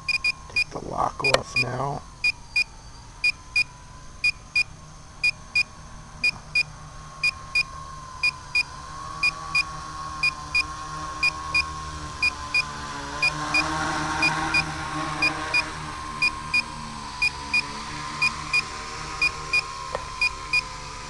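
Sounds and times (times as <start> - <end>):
steady high-pitched hum: 0.0 - 21.0.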